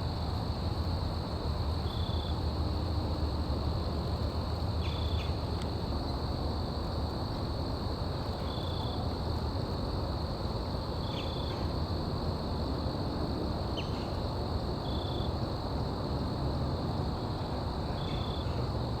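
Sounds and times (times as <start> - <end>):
crickets droning: 0.0 - 19.0.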